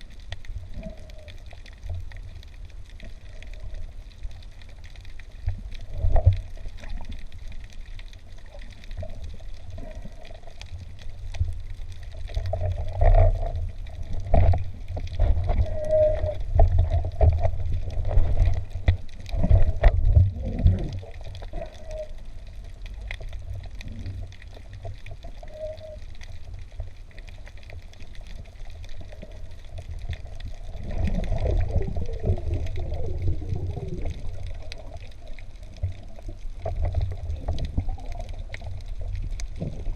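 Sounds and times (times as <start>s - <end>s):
bubbling and gurgling: 0.0s - 39.9s
muffled underwater water rush: 0.0s - 39.9s.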